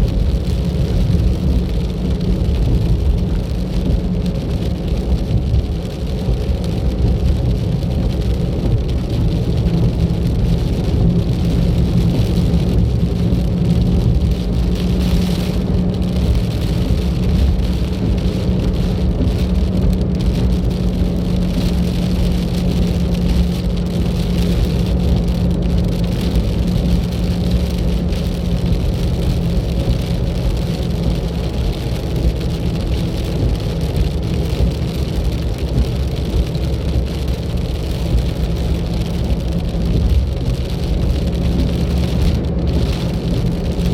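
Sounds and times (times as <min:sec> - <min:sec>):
car engine and tyre noise: 0:00.0 - 0:43.9.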